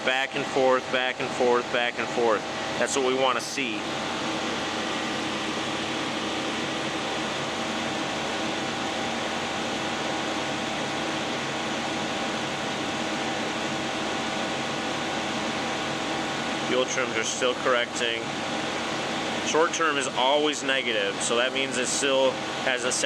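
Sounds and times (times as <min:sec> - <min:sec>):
faint steady hums: 0:00.0 - 0:23.0
radiator cooling fan running: 0:00.0 - 0:23.0.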